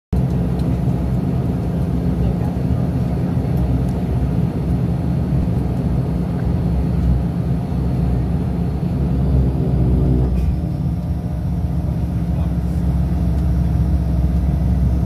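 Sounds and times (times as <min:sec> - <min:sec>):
turboprop engine drone: 0:00.1 - 0:15.0.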